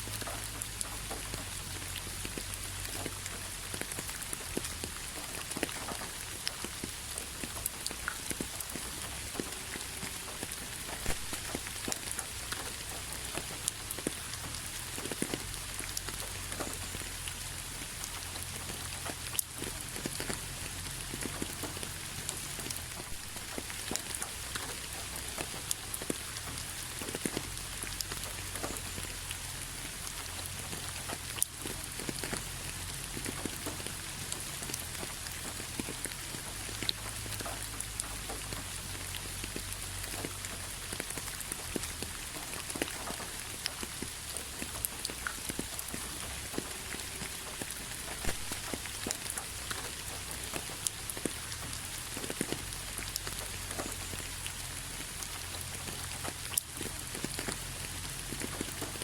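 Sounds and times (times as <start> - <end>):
raindrops ticking on a surface: 0.0 - 59.0
steady rain falling: 0.0 - 59.0.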